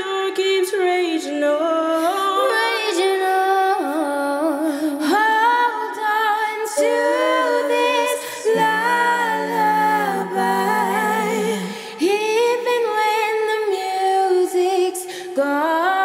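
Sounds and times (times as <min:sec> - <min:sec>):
women singing a cappella harmony: 0:00.0 - 0:16.0.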